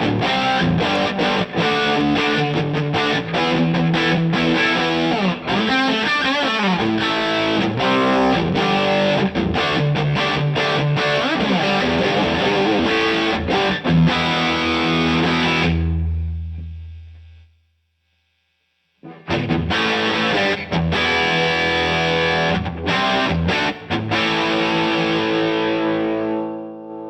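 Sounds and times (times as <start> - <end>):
distorted electric guitar: 0.0 - 17.5, 19.0 - 27.0.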